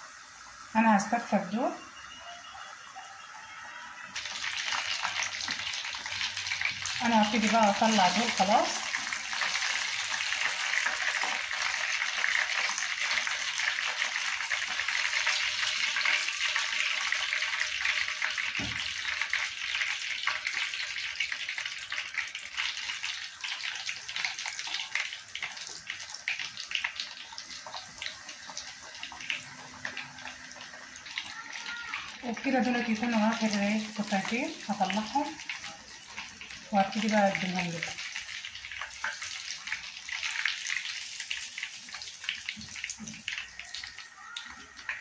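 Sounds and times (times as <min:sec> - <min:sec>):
hot oil sizzling: 0:00.0 - 0:45.0.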